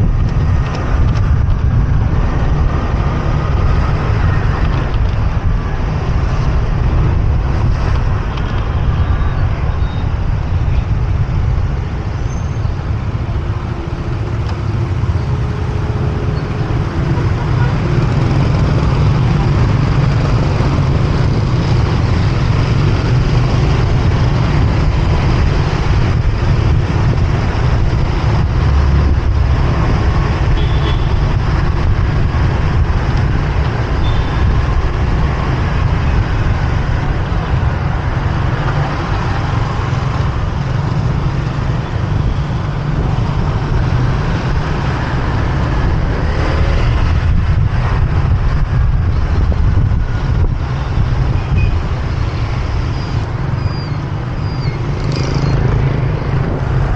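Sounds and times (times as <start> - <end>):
surrounding traffic noise: 0.0 - 56.9.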